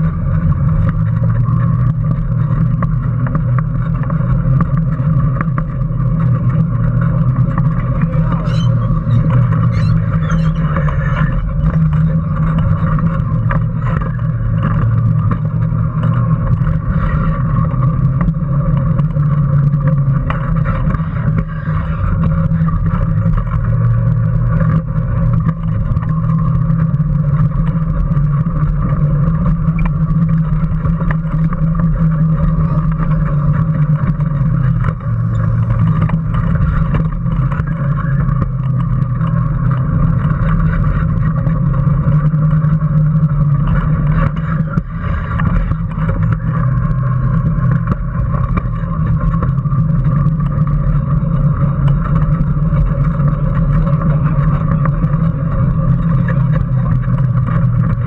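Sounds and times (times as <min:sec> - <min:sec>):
electric kart motor drone: 0:00.0 - 0:58.0.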